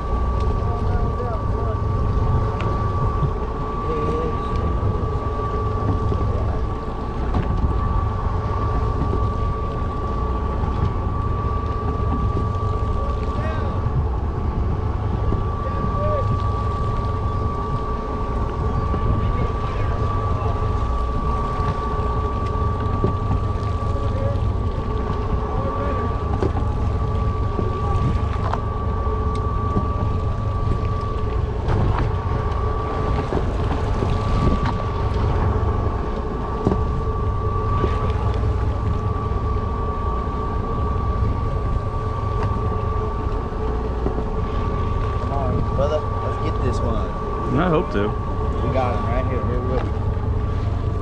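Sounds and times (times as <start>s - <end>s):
boat machinery drone: 0.0s - 51.0s
high whine: 0.0s - 51.0s
wind buffeting microphone: 0.0s - 51.0s.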